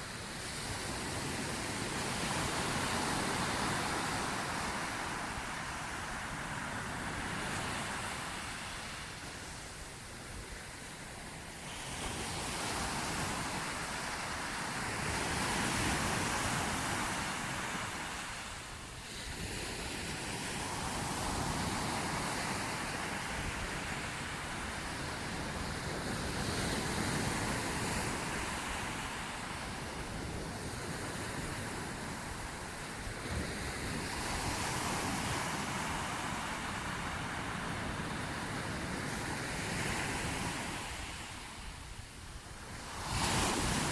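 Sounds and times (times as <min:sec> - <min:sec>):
sea waves washing on shore: 0:00.0 - 0:43.9.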